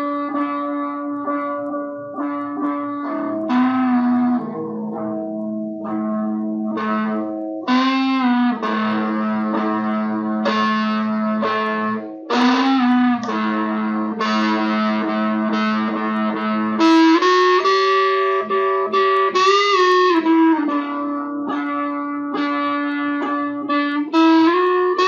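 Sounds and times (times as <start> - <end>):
electric guitar lead: 0.0 - 25.0.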